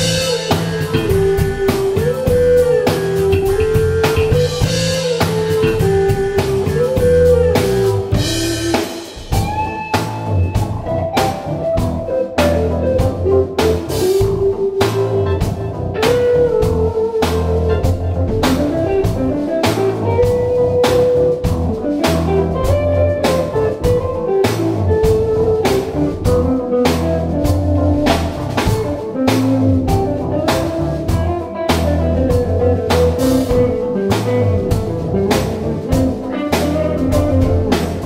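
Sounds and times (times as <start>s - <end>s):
drum kit and cymbal hits: 0.0s - 38.0s
electric bass line: 0.0s - 38.0s
electric guitar: 0.0s - 38.0s
keyboard: 0.0s - 38.0s.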